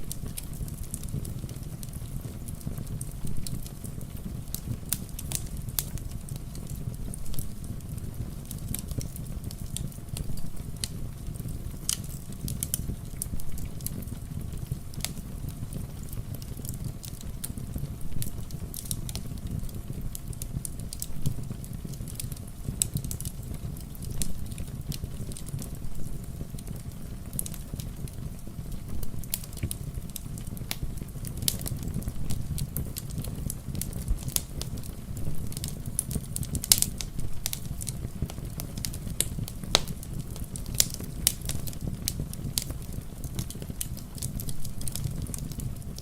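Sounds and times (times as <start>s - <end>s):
fireplace fire crackling: 0.0s - 46.0s.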